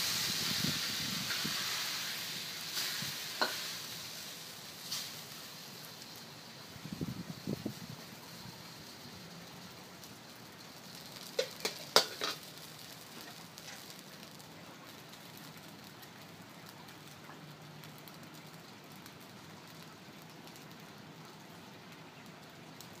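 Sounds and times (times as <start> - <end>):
oil sizzling in a wok: 0.0 - 23.0
propane burner hiss: 0.0 - 23.0.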